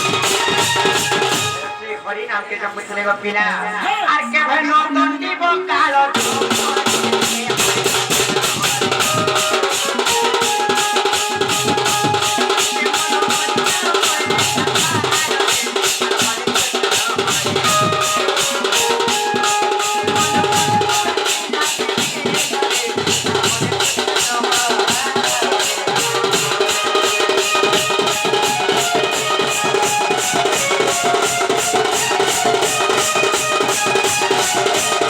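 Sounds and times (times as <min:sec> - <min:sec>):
fast drum strokes: 0:00.0 - 0:01.9, 0:06.1 - 0:35.0.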